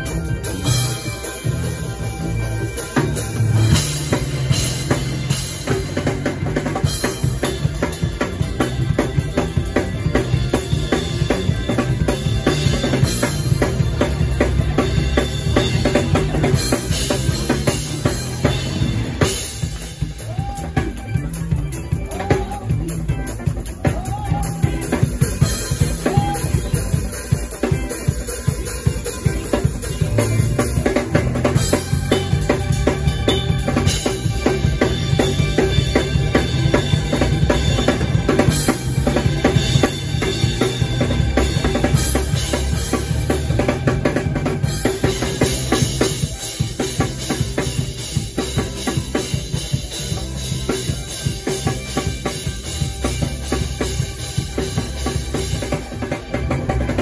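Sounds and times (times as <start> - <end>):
drum kit played hard: 0.0 - 57.0
low bass notes: 0.0 - 57.0.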